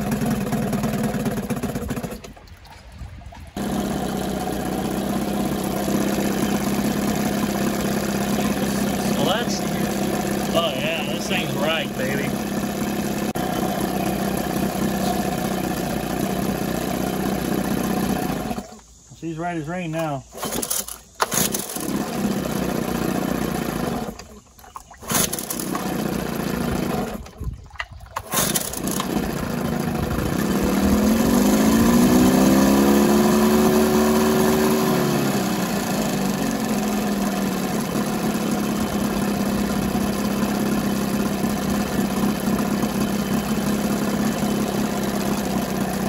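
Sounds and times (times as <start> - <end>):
outboard engine running: 0.0 - 19.0, 20.2 - 46.0.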